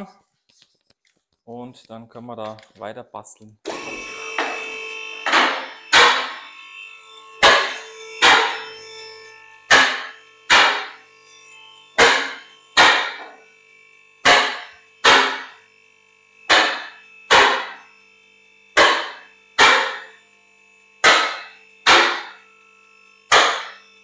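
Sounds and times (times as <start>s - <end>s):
lift motor hum: 3.7s - 24.0s.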